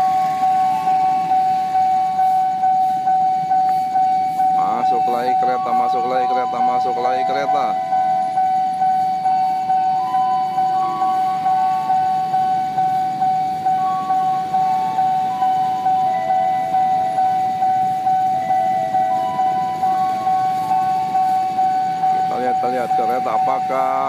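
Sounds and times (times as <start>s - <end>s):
level crossing alarm ringing: 0.0s - 24.0s.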